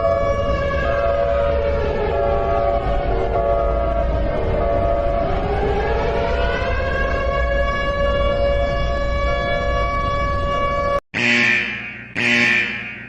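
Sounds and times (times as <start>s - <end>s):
lower steady siren tone: 0.0s - 13.0s
warning siren: 0.0s - 13.0s.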